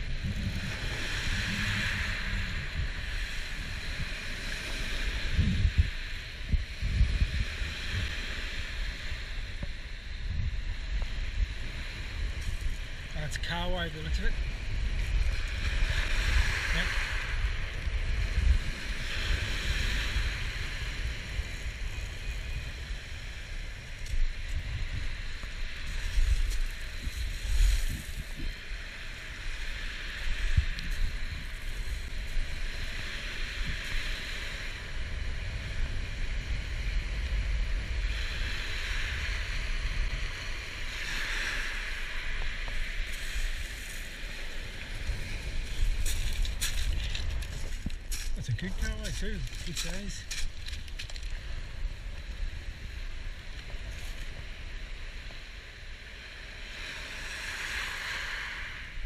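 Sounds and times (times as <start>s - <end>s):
waves breaking on shingle beach: 0.0s - 59.0s
wind buffeting microphone: 0.0s - 59.0s.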